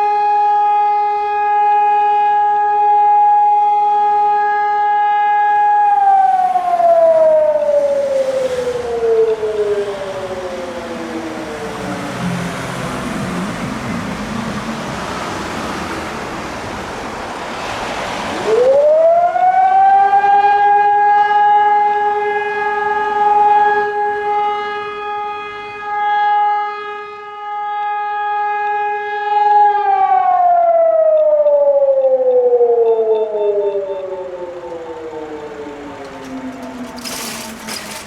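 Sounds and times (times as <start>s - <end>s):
motor-driven alarm siren wailing: 0.0s - 16.9s, 18.4s - 38.0s.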